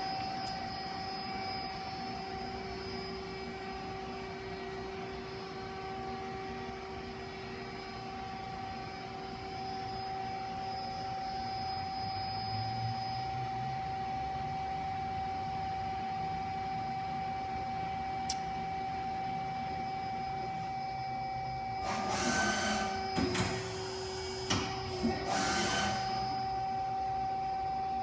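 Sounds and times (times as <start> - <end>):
machine whine: 0.0 - 28.0.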